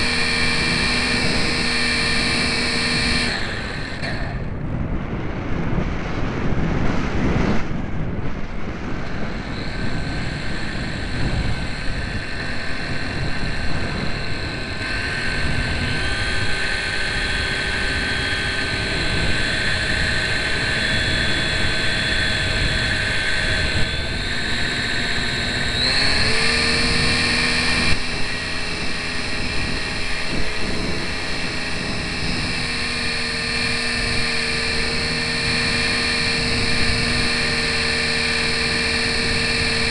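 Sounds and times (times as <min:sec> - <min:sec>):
electric motor and propeller whining: 0:00.0 - 0:39.9
wind rushing past microphone: 0:00.0 - 0:39.9.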